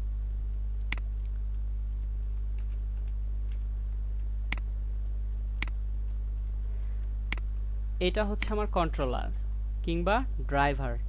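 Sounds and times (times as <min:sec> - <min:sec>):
low electrical mains hum: 0:00.0 - 0:11.0.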